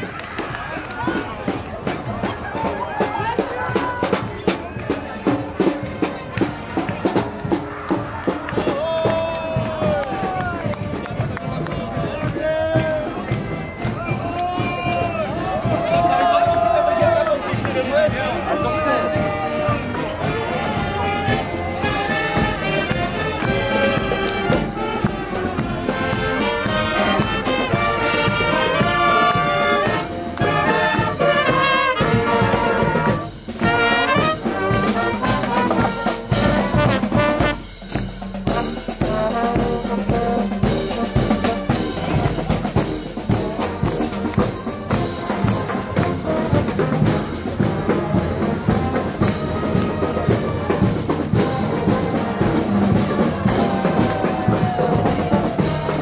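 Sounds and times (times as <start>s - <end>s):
marching wind band playing: 0.0s - 56.0s.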